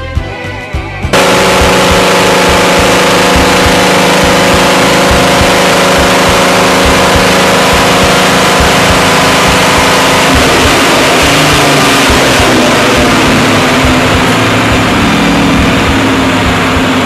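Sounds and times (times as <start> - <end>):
car engine revving loud: 1.1 - 17.0
tyres driving dyno rollers: 1.1 - 17.0.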